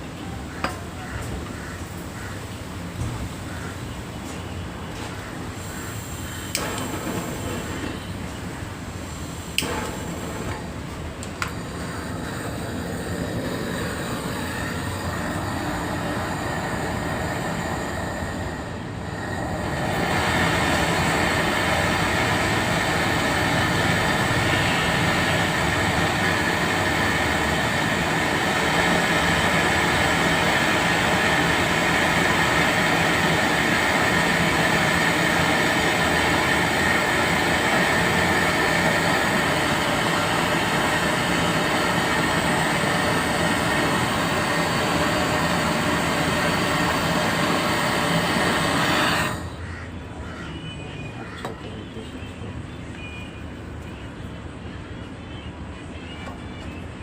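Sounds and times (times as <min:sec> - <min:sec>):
high whine: 0:00.0 - 0:52.0
loud machine noise: 0:00.0 - 0:57.0.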